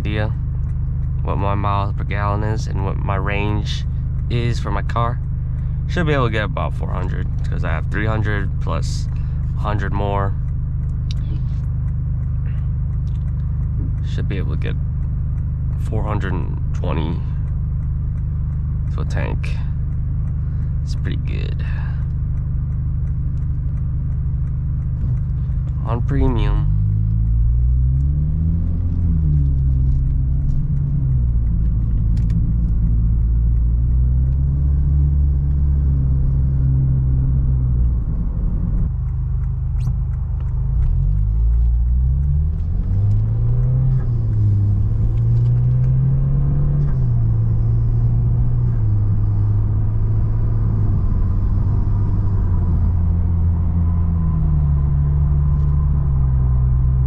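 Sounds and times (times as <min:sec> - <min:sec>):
car engine exhaust drone: 0:00.0 - 0:57.0.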